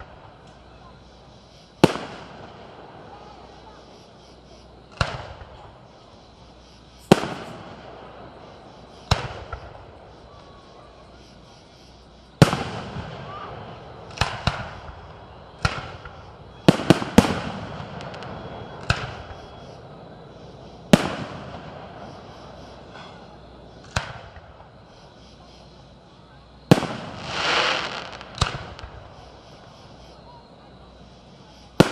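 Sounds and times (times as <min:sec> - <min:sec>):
fireworks bangs: 0:00.0 - 0:25.8, 0:26.6 - 0:30.3, 0:30.9 - 0:31.9.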